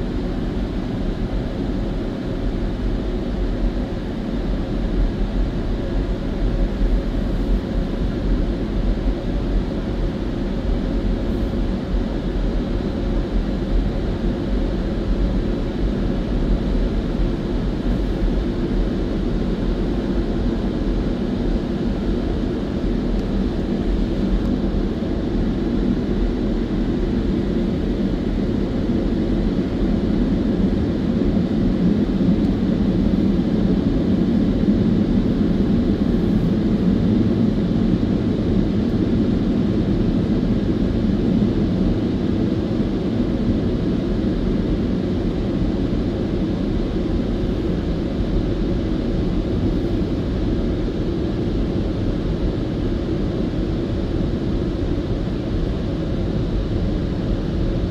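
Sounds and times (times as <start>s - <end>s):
muffled car wash machinery: 0.0s - 57.9s.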